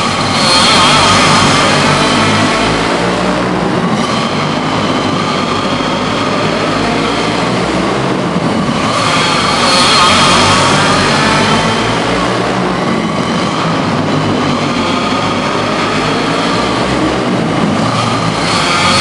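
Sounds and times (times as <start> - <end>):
go-kart engines whining: 0.0 - 19.0.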